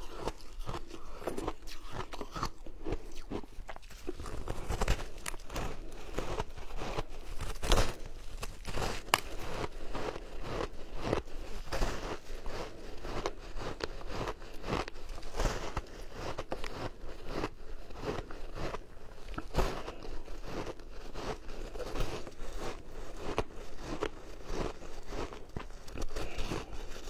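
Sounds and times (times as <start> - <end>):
shaved ice crunching: 0.0 - 27.0.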